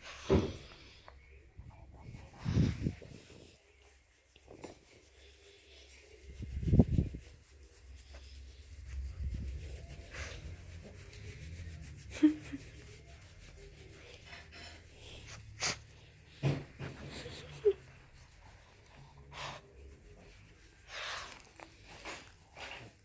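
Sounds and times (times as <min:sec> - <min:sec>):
rubbing and scuffing: 0:02.0 - 0:23.0.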